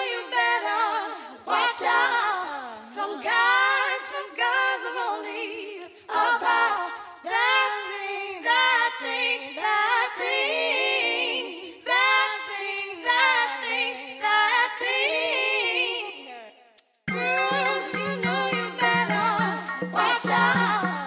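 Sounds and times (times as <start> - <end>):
high ticking beat: 0.0 - 21.0
voices singing a cappella: 0.0 - 21.0.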